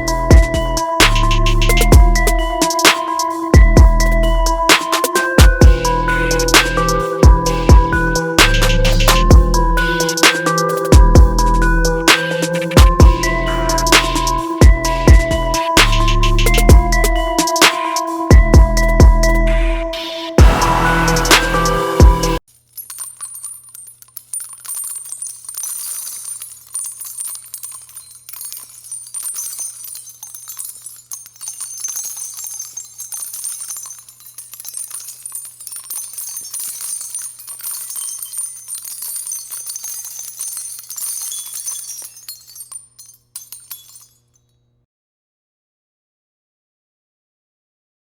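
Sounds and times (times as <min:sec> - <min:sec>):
light jingling and tinkling: 0:00.0 - 0:19.5, 0:20.4 - 0:44.7.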